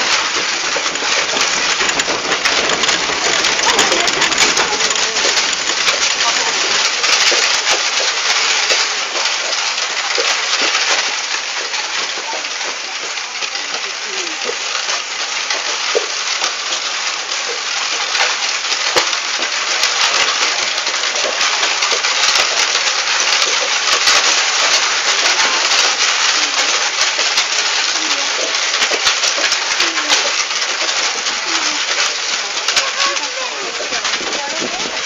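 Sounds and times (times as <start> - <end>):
cart clattering: 0.0 - 35.0
cart wheels rattling on road: 0.0 - 35.0.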